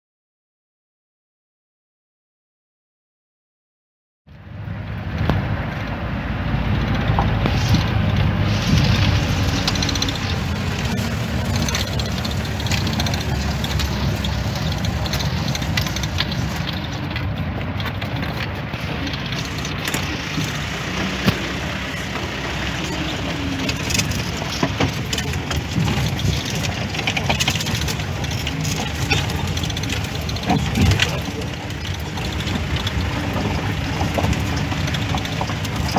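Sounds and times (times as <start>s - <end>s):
engine rumble: 4.3s - 35.9s
body knocking and rattling: 5.1s - 35.9s.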